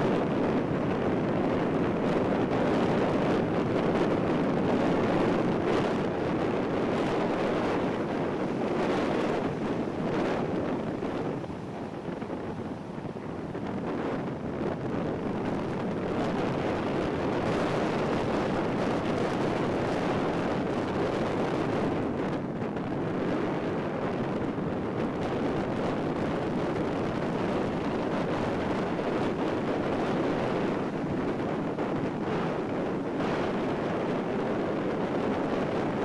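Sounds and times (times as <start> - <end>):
wind on microphone: 0.0 - 36.0.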